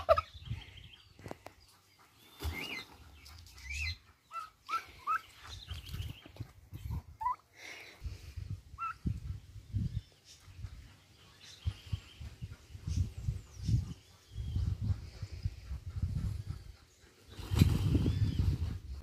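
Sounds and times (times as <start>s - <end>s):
turkeys peeping: 0.0s - 7.6s, 8.7s - 17.5s.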